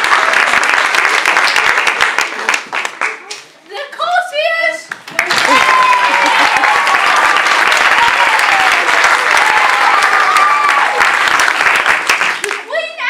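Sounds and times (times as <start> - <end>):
audience applauding: 0.0 - 3.5, 4.9 - 12.8.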